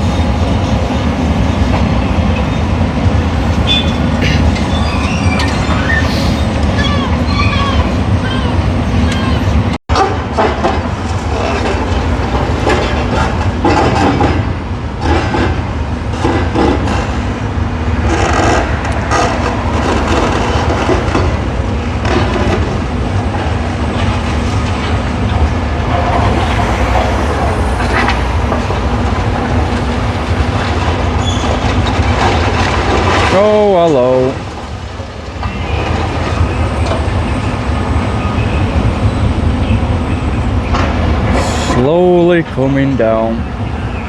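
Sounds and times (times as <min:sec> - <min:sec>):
diesel engine drone: 0:00.0 - 0:07.2, 0:10.0 - 0:44.0.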